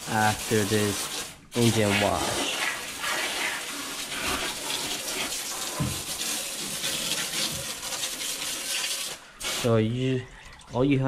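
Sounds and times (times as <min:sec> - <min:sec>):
hose spraying water: 0:00.0 - 0:09.8.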